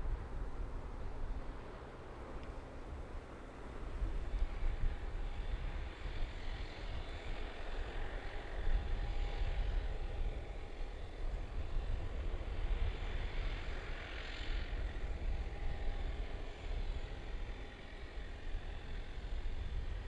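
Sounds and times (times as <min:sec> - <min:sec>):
aircraft engine noise: 0:00.0 - 0:20.0.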